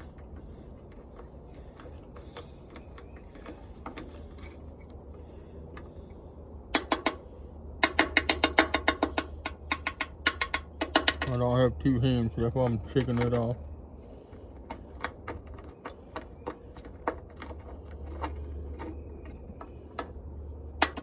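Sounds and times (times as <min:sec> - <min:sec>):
metal part knocking and rattling: 0:00.0 - 0:05.0, 0:06.7 - 0:11.4, 0:12.6 - 0:21.0.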